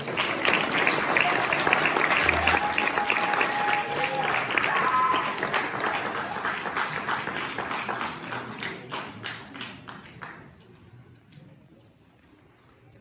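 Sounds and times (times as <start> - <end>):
audience applause: 0.0 - 10.7.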